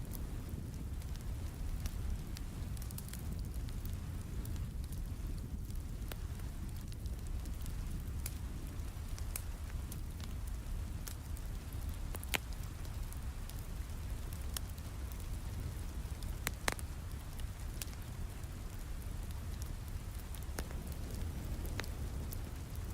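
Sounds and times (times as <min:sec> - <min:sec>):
low rumble of rain: 0:00.0 - 0:22.9
wood fire crackling and popping: 0:00.0 - 0:22.9.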